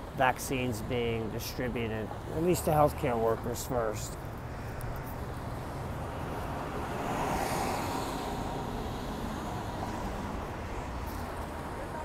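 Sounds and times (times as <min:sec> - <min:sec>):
street traffic hum: 0:00.0 - 0:12.0
vehicle passing: 0:02.1 - 0:12.0.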